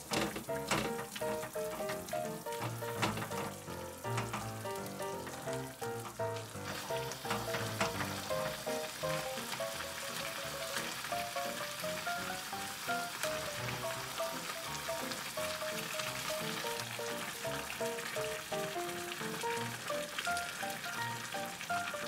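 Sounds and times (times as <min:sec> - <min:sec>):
sauce bubbling and sizzling: 0:00.0 - 0:22.0.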